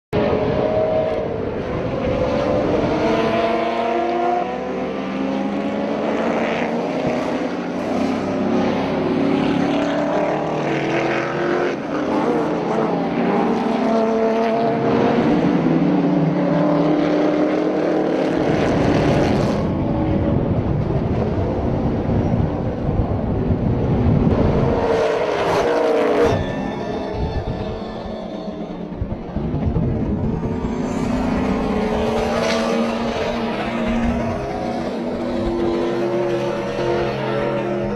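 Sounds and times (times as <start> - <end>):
race car engines revving and passing: 0.2 - 37.9.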